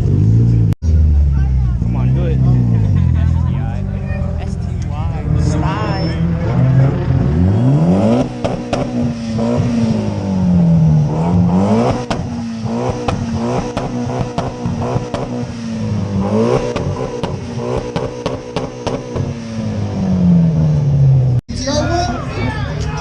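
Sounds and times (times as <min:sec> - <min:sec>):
car engine revving: 0:00.0 - 0:21.5.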